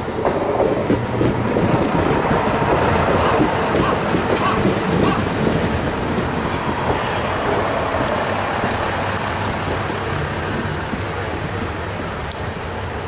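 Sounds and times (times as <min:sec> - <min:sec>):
railcar running noise: 0:00.0 - 0:13.0
railcar wheels clicking over joints: 0:00.2 - 0:12.5.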